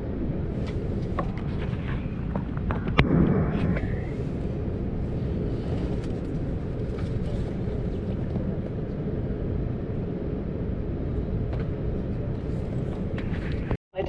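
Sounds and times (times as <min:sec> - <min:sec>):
airliner cabin noise: 0:00.0 - 0:14.0.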